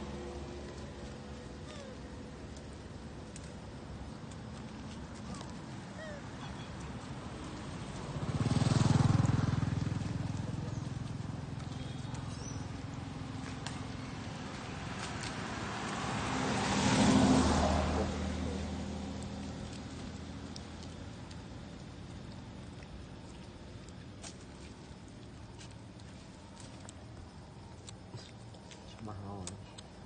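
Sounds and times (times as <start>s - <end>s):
vehicles driving by: 0.0s - 24.2s.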